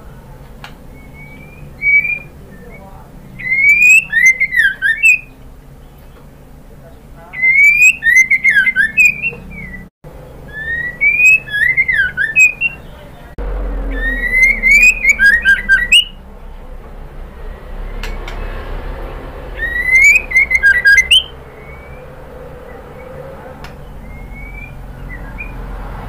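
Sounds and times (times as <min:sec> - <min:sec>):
steady background hum: 0:00.0 - 0:25.2
songbird singing: 0:00.0 - 0:26.0.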